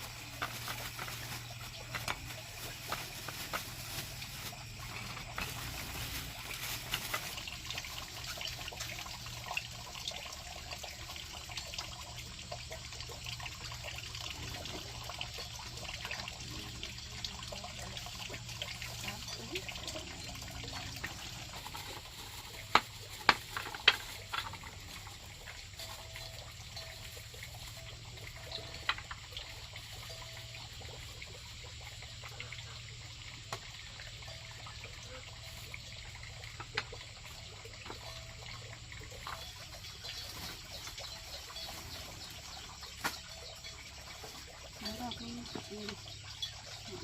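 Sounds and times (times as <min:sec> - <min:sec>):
water trickling and splashing: 0:00.0 - 0:47.0.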